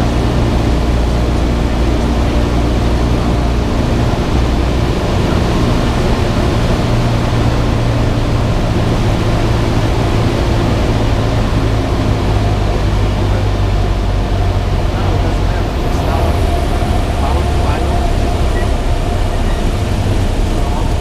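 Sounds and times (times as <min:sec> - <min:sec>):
propeller plane engine drone: 0:00.0 - 0:21.0
rushing noise: 0:00.0 - 0:21.0.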